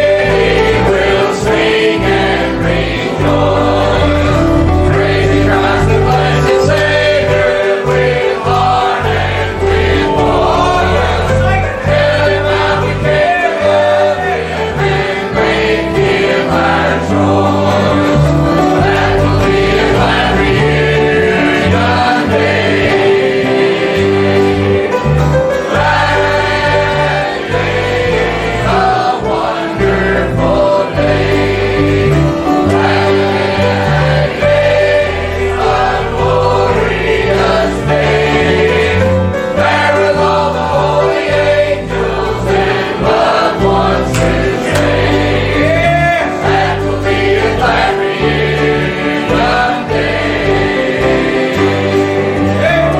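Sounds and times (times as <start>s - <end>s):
choir singing gospel: 0.0s - 52.9s.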